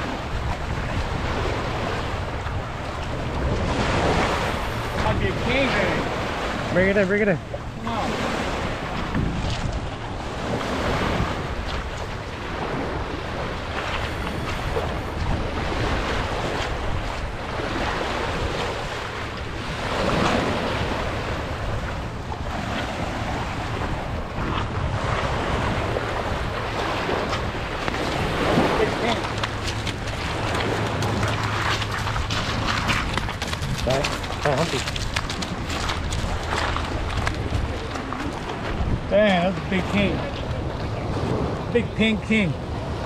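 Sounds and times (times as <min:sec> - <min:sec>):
small waves on pebble beach: 0:00.0 - 0:40.3
wind buffeting microphone: 0:00.0 - 0:43.0.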